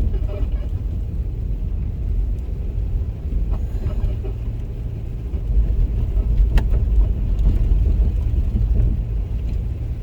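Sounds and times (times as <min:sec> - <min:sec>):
car tyres rumbling on bumpy road: 0:00.0 - 0:10.0.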